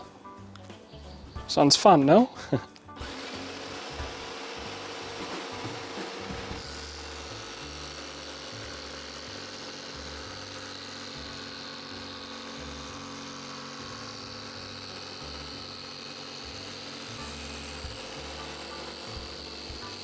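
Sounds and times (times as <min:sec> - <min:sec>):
jigsaw motor humming: 0:03.0 - 0:20.0.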